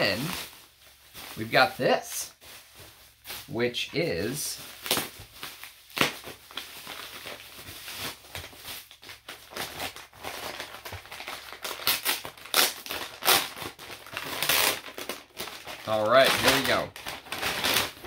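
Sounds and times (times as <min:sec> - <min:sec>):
paper packaging crinkling: 0:00.0 - 0:18.0.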